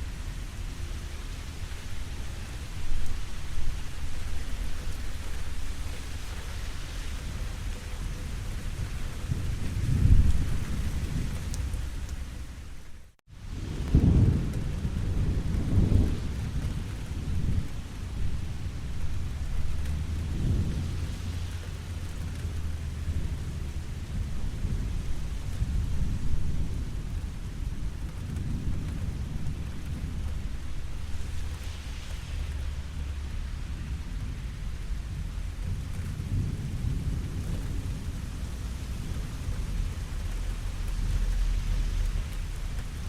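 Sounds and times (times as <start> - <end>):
steady rain falling: 0.0 - 43.0
thunder rumbling: 0.0 - 43.0.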